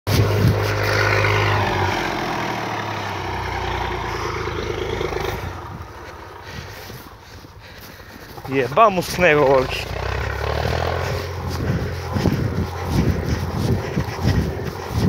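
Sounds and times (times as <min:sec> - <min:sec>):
tractor diesel engine running: 0:00.1 - 0:15.0.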